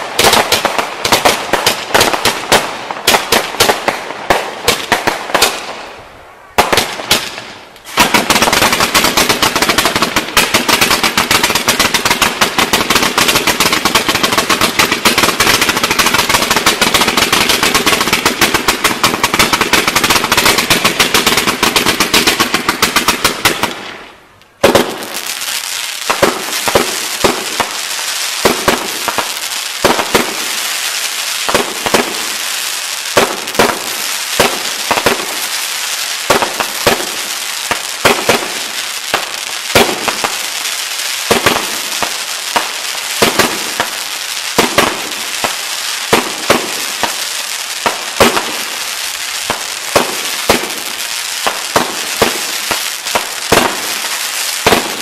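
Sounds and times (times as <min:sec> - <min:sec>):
fireworks cracking: 0:00.0 - 0:55.0
fireworks crackling: 0:00.0 - 0:55.0
fireworks sharp bangs: 0:00.0 - 0:55.0.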